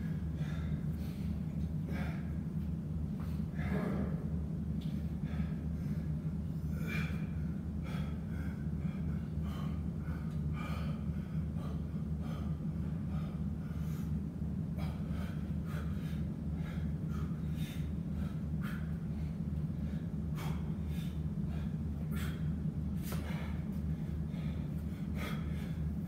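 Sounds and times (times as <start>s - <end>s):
man breathing hard: 0.0s - 26.0s
steady low hum: 0.0s - 26.0s.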